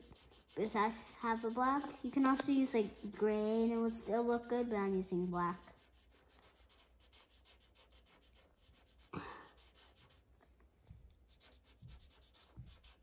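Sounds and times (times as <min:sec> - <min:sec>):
marker scratching on paper: 0:00.0 - 0:13.0.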